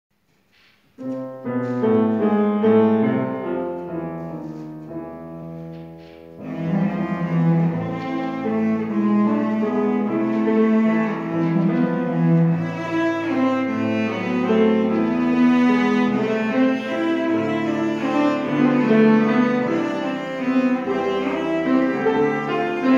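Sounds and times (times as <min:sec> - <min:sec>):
grand piano accompaniment: 0:00.5 - 0:22.9
cello playing: 0:01.5 - 0:22.9.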